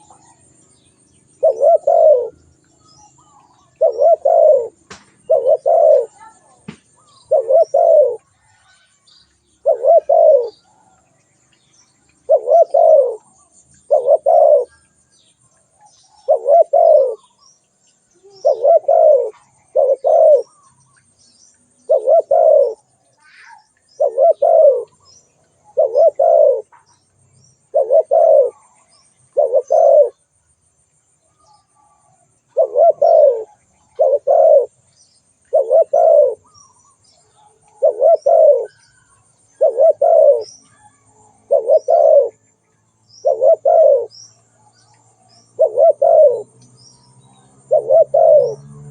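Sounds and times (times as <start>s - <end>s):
dove cooing: 0.0s - 9.0s, 9.6s - 11.0s, 12.2s - 15.0s, 15.8s - 17.4s, 18.2s - 20.8s, 21.8s - 26.9s, 27.6s - 30.3s, 31.5s - 34.8s, 35.4s - 42.4s, 43.2s - 46.6s, 47.2s - 48.9s
small birds chirping: 0.0s - 48.9s.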